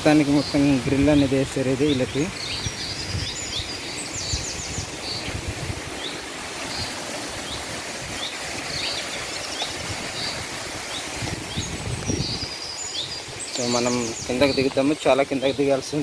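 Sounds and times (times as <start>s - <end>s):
small birds chirping: 0.0s - 16.0s
waterfall running water: 0.0s - 16.0s.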